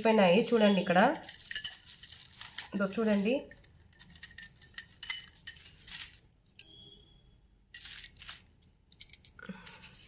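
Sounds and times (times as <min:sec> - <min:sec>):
glass bangles clinking: 0:00.0 - 0:09.8.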